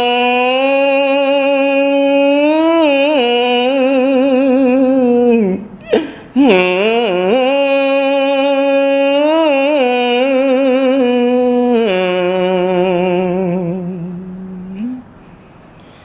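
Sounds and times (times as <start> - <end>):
person chanting long notes: 0.0 - 15.1.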